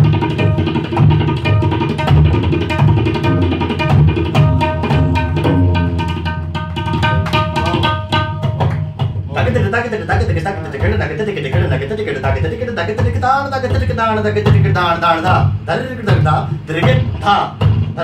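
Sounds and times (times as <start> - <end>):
tabla playing: 0.0 - 18.0.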